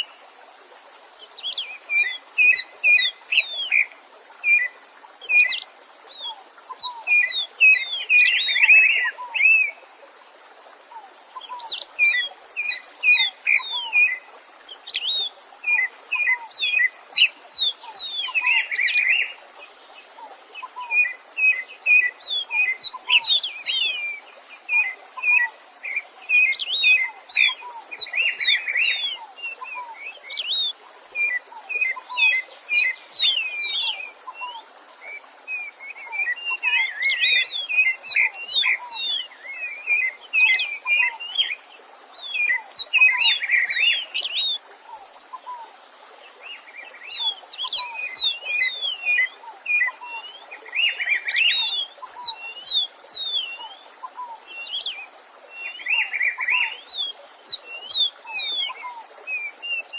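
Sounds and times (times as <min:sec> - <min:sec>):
faint stream: 0:00.0 - 0:59.9
songbird singing whistled notes: 0:01.2 - 0:09.8, 0:11.0 - 0:19.4, 0:20.5 - 0:45.7, 0:46.4 - 0:59.9.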